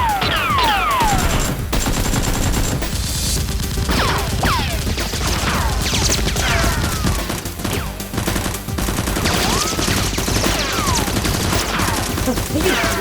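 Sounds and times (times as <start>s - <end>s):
rapid gunfire: 0.0s - 13.0s.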